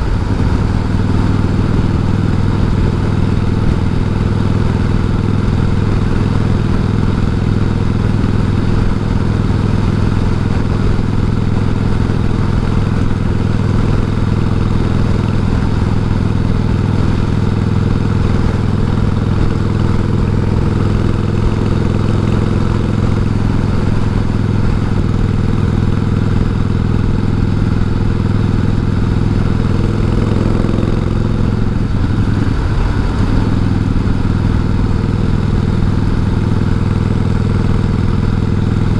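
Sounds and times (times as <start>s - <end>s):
wind rush: 0.0s - 38.3s
motorcycle engine running: 0.0s - 38.9s.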